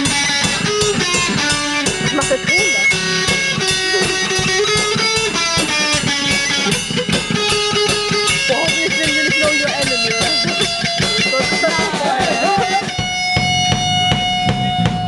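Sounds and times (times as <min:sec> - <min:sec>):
bass guitar: 0:00.0 - 0:15.0
drum kit: 0:00.0 - 0:15.0
electric guitars strumming: 0:00.0 - 0:15.0.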